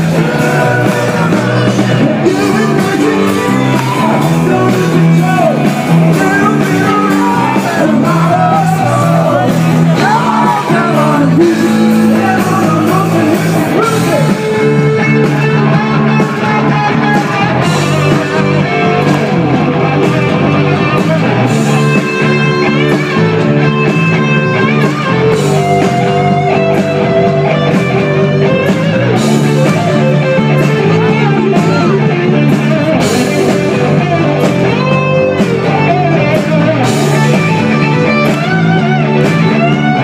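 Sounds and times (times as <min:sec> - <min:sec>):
electric guitar: 0:00.0 - 0:40.0
live rock band playing: 0:00.0 - 0:40.0.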